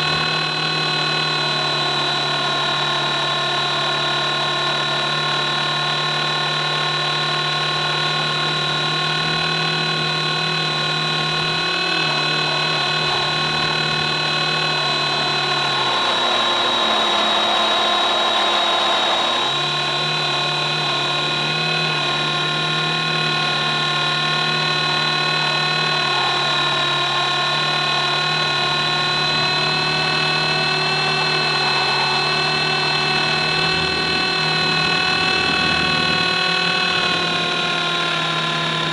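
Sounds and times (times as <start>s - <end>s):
low rotor hum: 0.0s - 38.9s
motor and gears whine: 0.0s - 38.9s.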